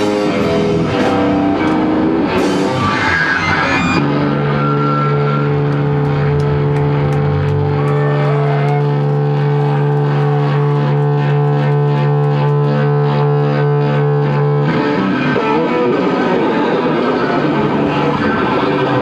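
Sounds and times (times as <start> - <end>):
distorted electric guitar: 0.0 - 19.0
live rock band playing: 0.0 - 19.0.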